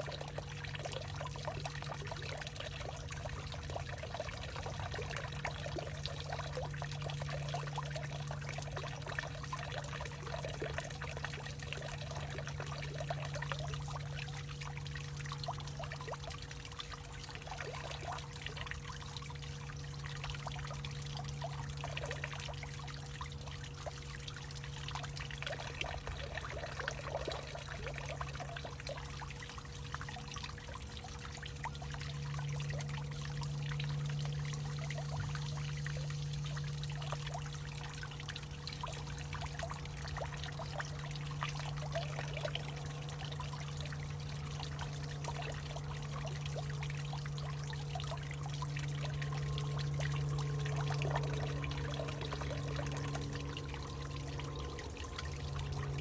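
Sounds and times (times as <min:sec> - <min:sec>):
steady low hum: 0:00.0 - 0:56.0
water trickling and pouring: 0:00.0 - 0:56.0.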